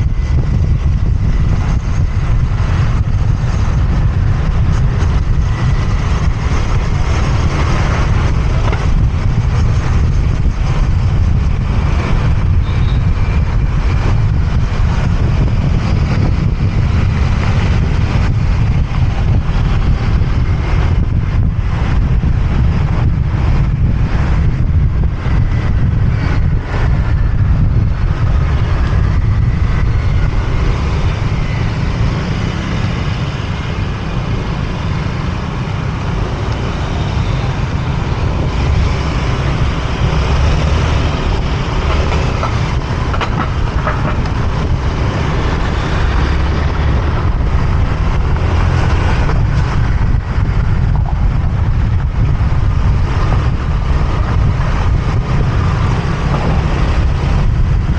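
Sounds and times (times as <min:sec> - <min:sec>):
city traffic: 0:00.0 - 0:57.9
motorbike engine: 0:00.0 - 0:57.9
wind buffeting microphone: 0:00.0 - 0:57.9.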